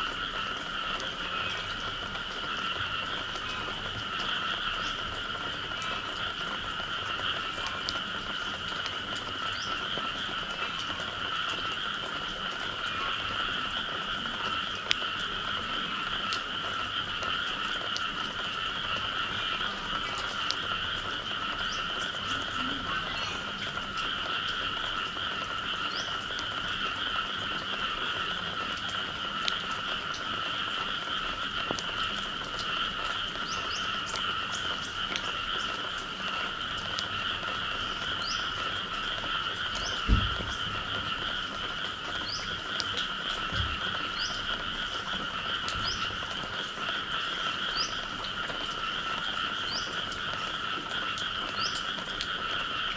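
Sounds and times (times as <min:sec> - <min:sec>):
chorus of frogs calling: 0:00.0 - 0:52.9.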